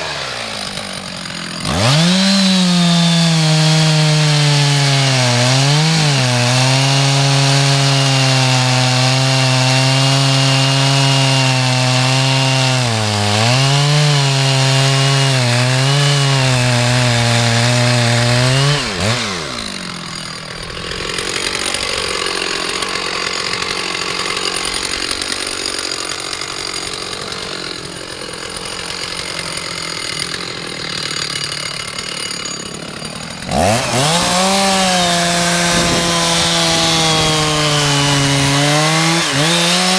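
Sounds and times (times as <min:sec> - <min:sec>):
two-stroke chainsaw running: 0:00.0 - 0:39.9.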